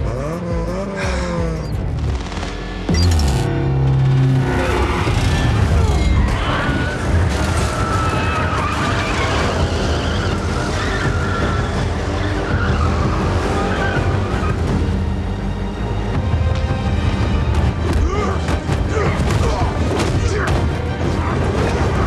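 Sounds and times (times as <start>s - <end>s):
film score music: 0.0s - 22.0s.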